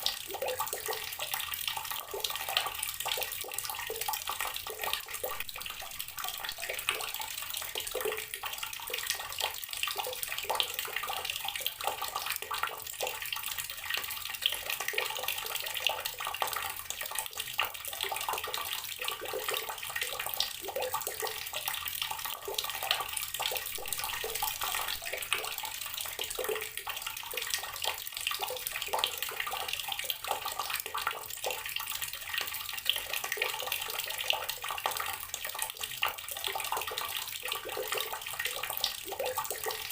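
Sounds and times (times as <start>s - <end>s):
water running from tap: 0.0s - 39.9s.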